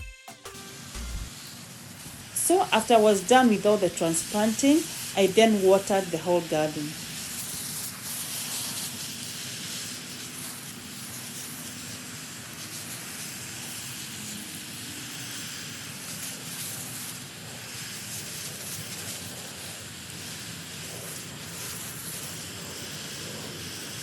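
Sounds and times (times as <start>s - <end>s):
garden hose spraying water: 0.6s - 24.0s.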